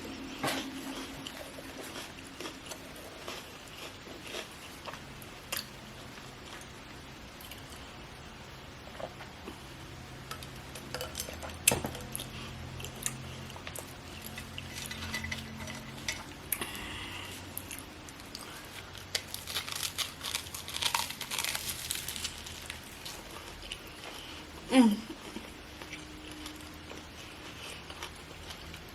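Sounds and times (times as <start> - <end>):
chewing and crunching: 0.0 - 6.8, 10.2 - 24.5, 25.1 - 28.9.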